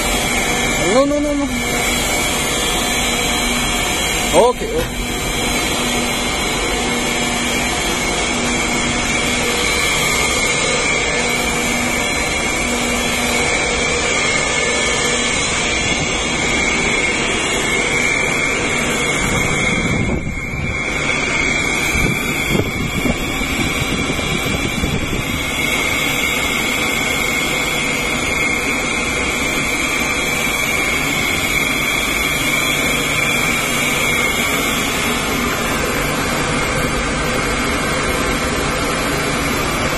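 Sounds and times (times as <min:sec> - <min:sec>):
high-pitched whine: 0:00.0 - 0:39.9
machinery mechanical drone: 0:00.0 - 0:39.9.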